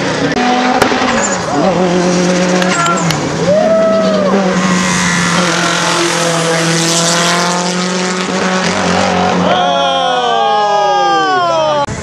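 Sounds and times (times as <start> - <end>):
race car engine at high revs: 0.0 - 10.0.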